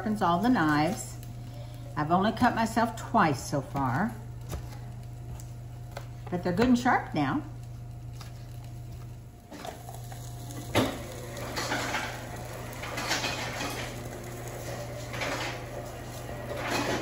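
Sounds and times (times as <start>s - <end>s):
peppers sizzling in frying pan: 0.0s - 17.0s.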